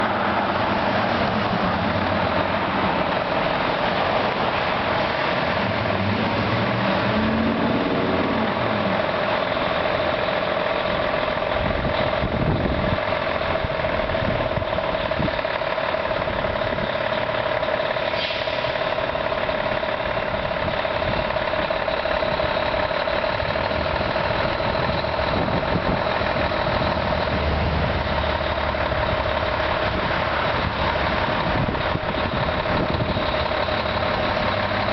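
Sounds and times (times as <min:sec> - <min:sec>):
fire truck diesel engine driving: 0:00.0 - 0:34.9
road noise: 0:00.0 - 0:34.9.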